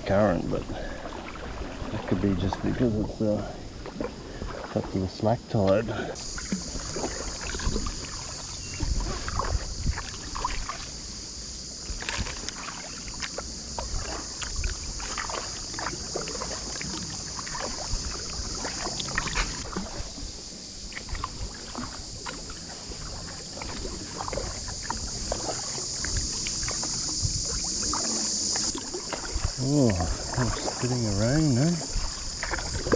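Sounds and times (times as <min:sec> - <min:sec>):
paddle splashing in water: 0:00.0 - 0:32.9
steady high-pitched hiss: 0:00.0 - 0:32.9.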